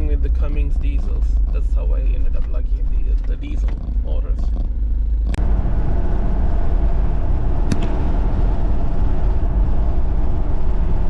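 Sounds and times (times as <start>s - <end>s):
diesel engine rumbling: 0.0s - 11.0s
road noise: 0.0s - 11.0s.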